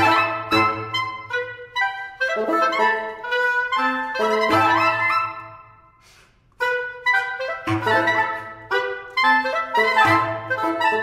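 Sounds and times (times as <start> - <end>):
reed quintet playing chamber music: 0.0 - 11.0.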